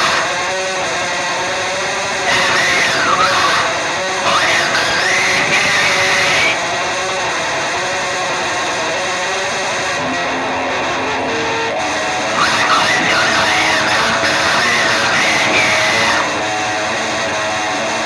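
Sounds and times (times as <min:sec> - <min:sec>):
distorted electric guitar noise music: 0:00.0 - 0:18.0.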